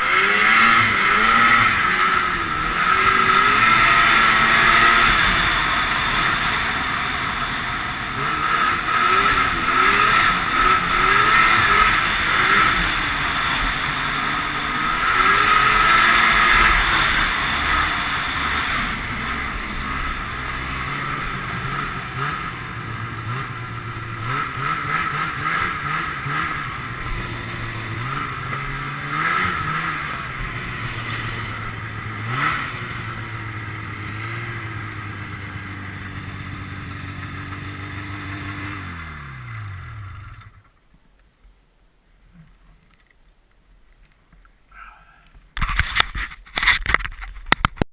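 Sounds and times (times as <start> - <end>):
snowmobile engine revving: 0.0 - 40.7.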